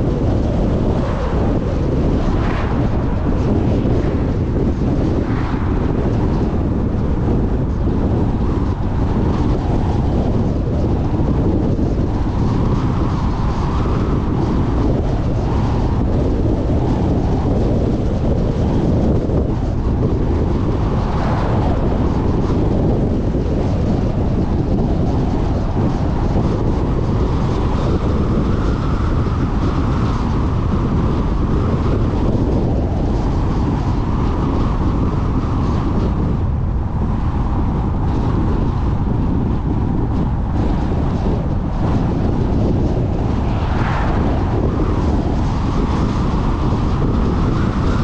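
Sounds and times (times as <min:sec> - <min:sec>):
car driving on highway: 0:00.0 - 0:48.0
wind buffeting microphone: 0:00.0 - 0:48.0.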